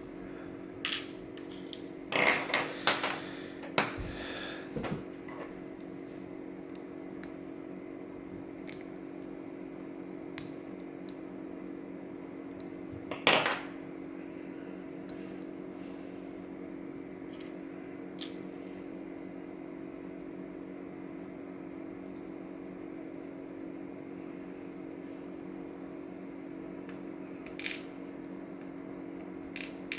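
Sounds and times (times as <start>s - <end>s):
background hum: 0.0s - 29.9s.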